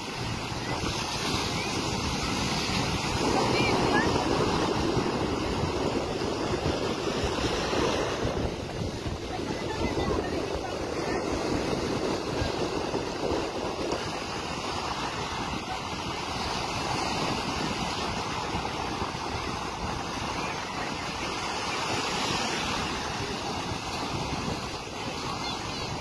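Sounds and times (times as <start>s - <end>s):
sea surf breaking: 0.0s - 26.0s.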